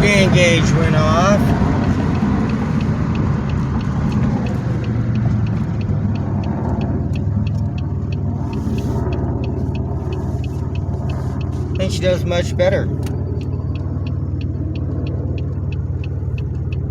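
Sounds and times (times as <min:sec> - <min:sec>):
engine and road noise rumble: 0:00.0 - 0:16.9
quick regular ticking: 0:00.0 - 0:16.9.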